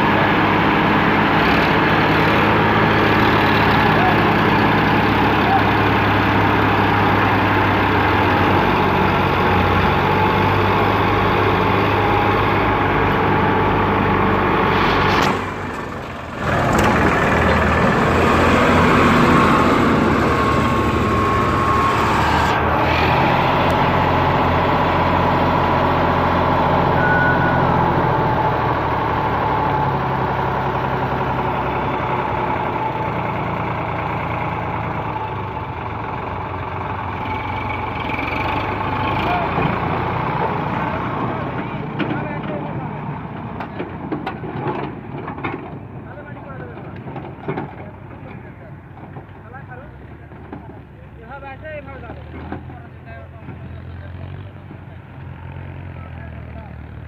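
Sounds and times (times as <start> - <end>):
diesel tractor engines running: 0.0 - 57.0.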